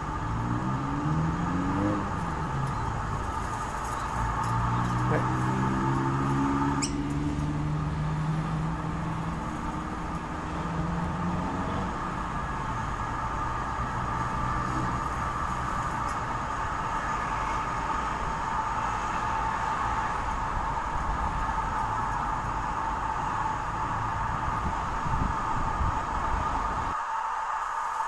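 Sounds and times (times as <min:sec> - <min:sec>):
passing vehicle engine hum: 0:00.0 - 0:27.0
steady noise: 0:00.0 - 0:28.0.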